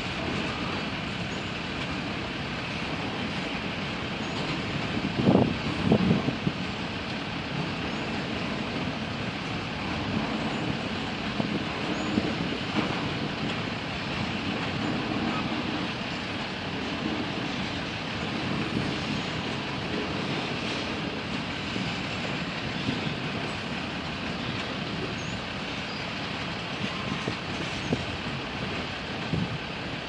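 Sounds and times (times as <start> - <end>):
freight train cars rolling: 0.0 - 30.0.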